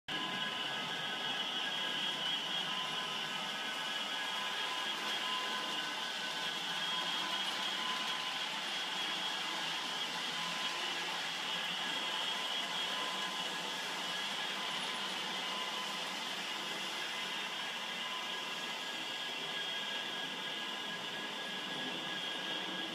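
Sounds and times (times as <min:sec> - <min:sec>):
small electric motors whirring: 0:00.1 - 0:22.9
thin high-pitched whines: 0:00.1 - 0:22.9.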